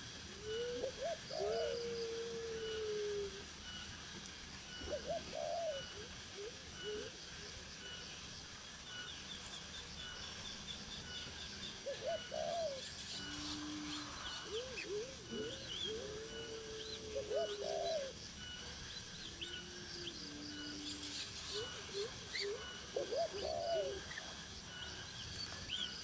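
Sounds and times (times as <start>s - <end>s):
birds low rising calls: 0.0s - 26.0s.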